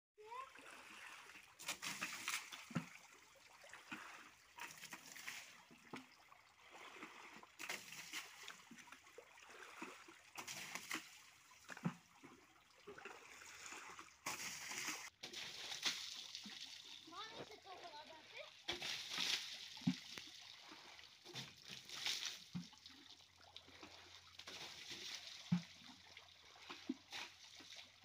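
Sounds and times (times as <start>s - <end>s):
water splashing on tractor: 0.2s - 28.0s
water trickling and sloshing: 0.2s - 28.0s.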